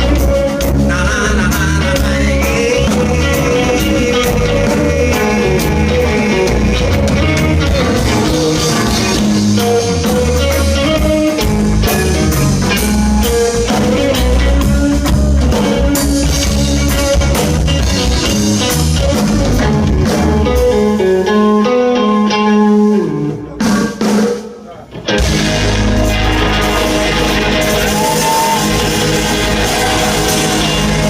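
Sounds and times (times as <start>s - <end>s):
bass: 0.0s - 31.0s
drums: 0.0s - 31.0s
guitar: 0.0s - 31.0s.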